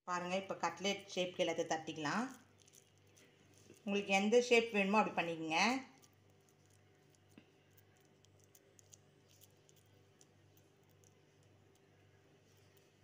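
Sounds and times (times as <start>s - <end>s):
faint low hum: 0.1s - 13.0s
hands patting food mixture: 0.7s - 13.0s.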